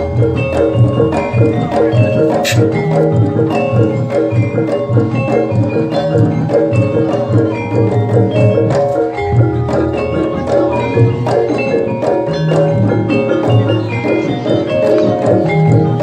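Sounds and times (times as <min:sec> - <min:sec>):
bronze mallet instruments: 0:00.0 - 0:16.0
drum beats: 0:00.0 - 0:16.0
gamelan music: 0:00.0 - 0:16.0.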